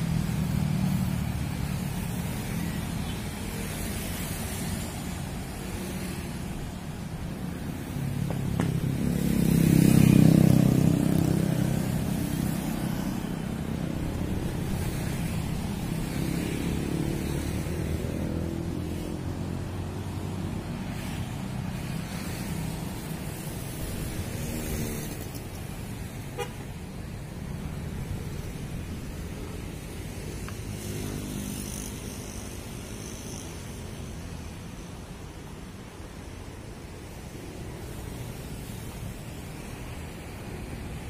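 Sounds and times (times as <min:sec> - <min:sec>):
motorcycle and car engines passing: 0:00.0 - 0:41.0
traffic rumble: 0:00.0 - 0:41.0.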